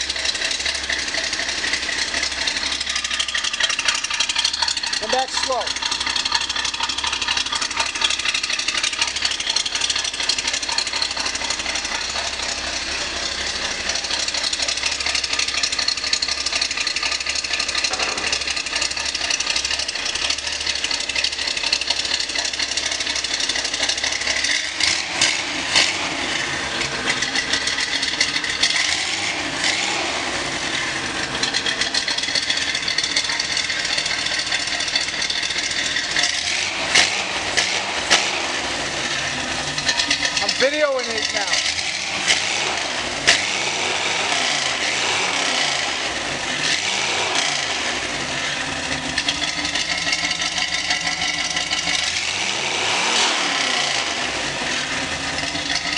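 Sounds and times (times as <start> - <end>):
hot rod engine rumbling: 0.0 - 55.9.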